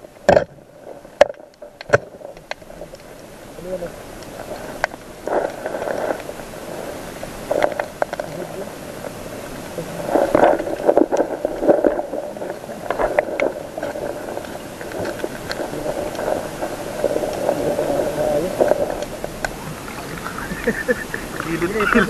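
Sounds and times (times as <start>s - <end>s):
clicks and crackles: 0.0s - 22.0s
muffled underwater water noise: 0.0s - 22.0s.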